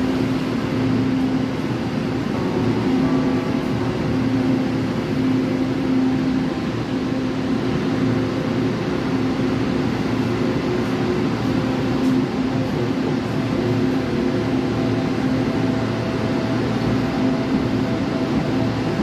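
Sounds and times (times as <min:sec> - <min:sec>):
train mechanical drone: 0:00.0 - 0:19.0.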